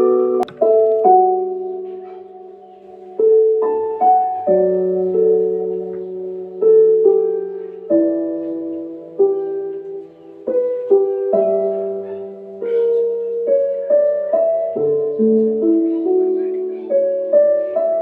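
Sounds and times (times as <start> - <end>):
gentle solo piano: 0.0 - 18.0.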